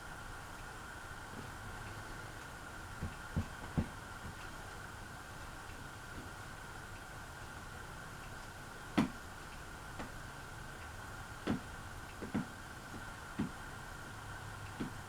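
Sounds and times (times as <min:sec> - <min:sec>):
ceiling fan motor hum: 0:00.0 - 0:15.0
sharp ticks of fan: 0:00.0 - 0:15.0.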